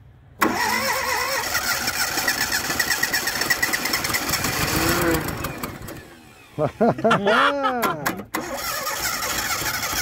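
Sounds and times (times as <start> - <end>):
car engine cranking on starter: 0.4 - 6.8, 8.1 - 10.0.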